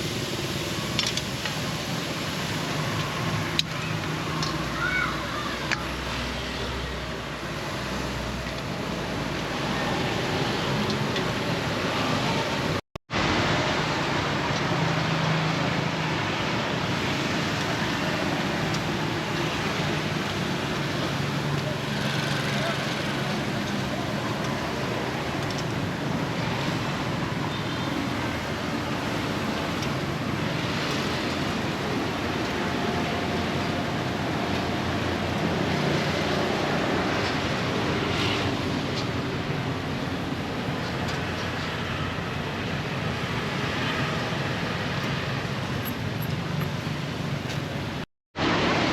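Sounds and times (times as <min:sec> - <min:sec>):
busy street market: 0:00.0 - 0:48.9
traffic: 0:00.0 - 0:48.9.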